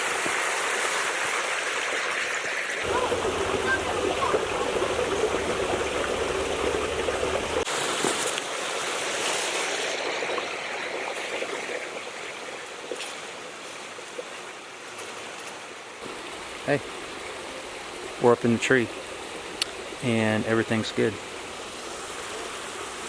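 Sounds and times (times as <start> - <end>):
creek water running over rocks: 0.0 - 23.0.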